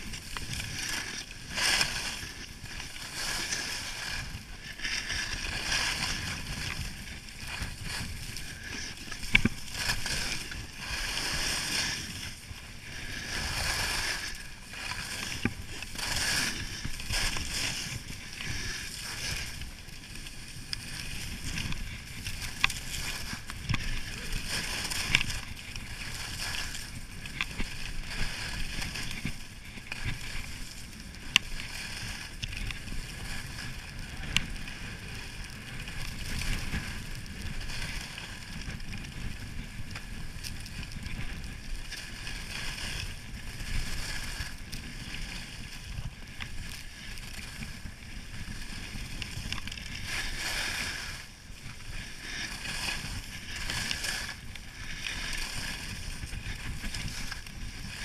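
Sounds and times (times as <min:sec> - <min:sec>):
skis scraping on snow: 0:00.0 - 0:58.0.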